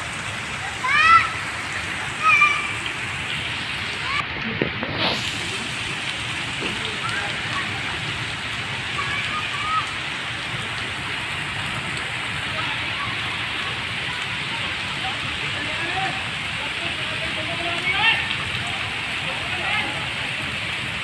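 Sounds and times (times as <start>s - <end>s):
heavy rain on leaves: 0.0s - 21.0s.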